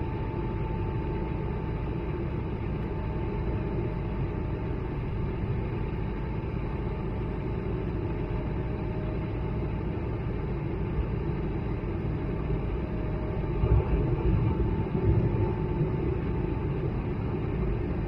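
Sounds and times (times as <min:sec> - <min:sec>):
jet engine drone: 0:00.0 - 0:18.0
thin steady whine: 0:00.0 - 0:18.0.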